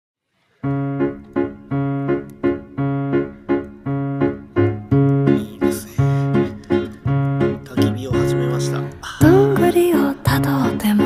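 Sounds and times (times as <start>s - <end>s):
keyboard playing repeated chords: 0.6s - 11.0s.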